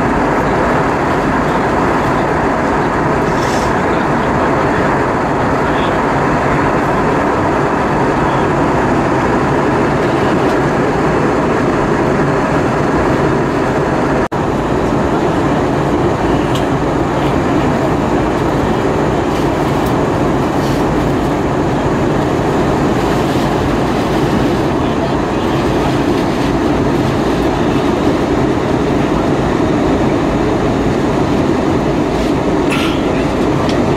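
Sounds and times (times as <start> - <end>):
airplane cabin noise: 0.0 - 33.9.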